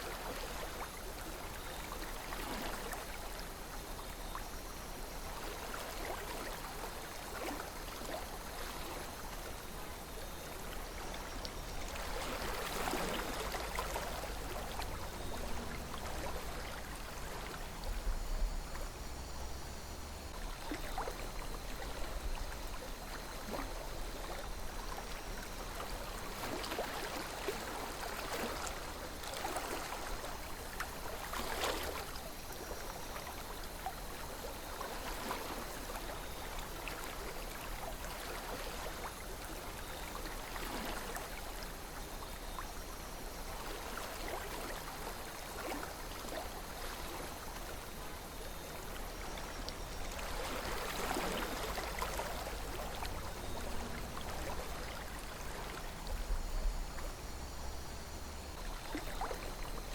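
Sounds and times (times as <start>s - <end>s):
river water trickling and gurgling: 0.0s - 59.9s.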